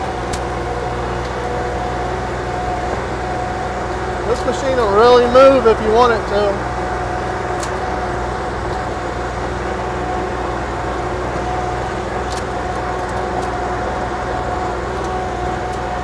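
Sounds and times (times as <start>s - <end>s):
high whine: 0.0s - 16.0s
skid steer engine running: 0.0s - 16.0s.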